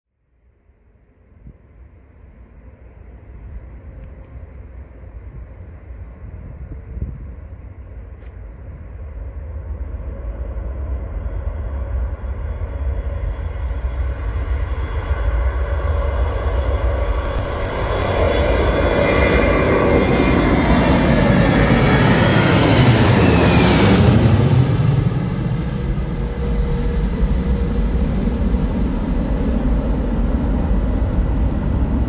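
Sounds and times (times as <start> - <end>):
jet engines roaring: 3.0 - 32.0.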